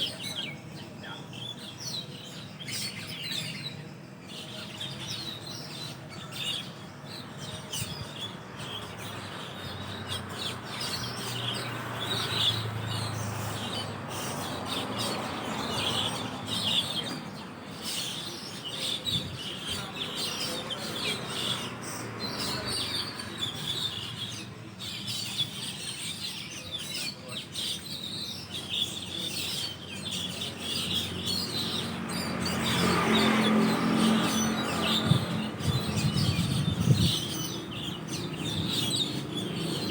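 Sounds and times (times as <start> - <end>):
starlings chattering: 0.0 - 39.9.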